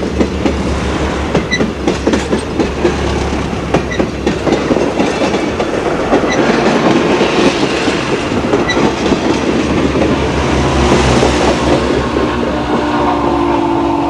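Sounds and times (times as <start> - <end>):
train wheels clacking over rail joints: 0.0 - 14.0.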